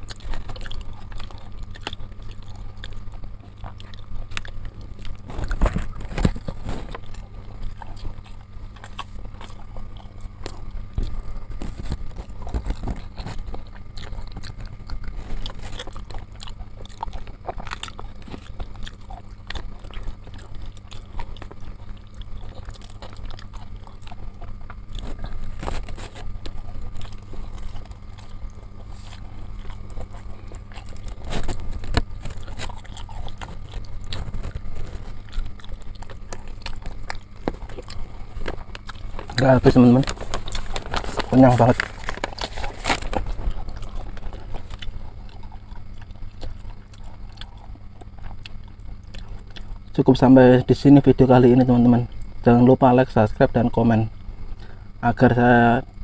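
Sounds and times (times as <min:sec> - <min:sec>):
chewing with wet mouth smacks: 0:00.0 - 0:56.0
steady low hum: 0:00.0 - 0:56.0.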